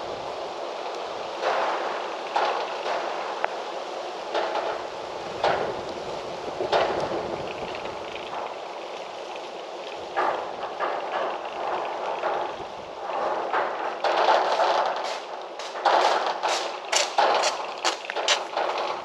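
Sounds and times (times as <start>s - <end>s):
gusty wind: 0.0s - 19.0s.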